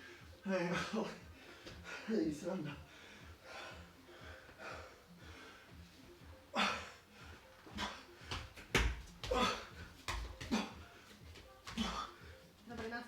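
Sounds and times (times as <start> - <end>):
person breathing heavily: 0.0 - 12.6.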